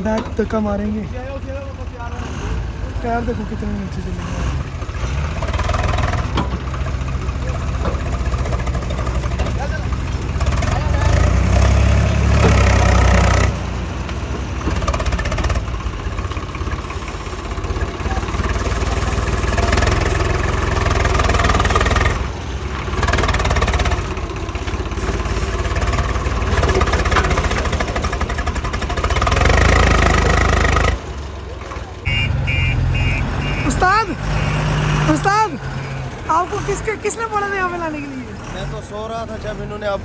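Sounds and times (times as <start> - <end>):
heavy diesel engines under load: 0.0 - 40.0.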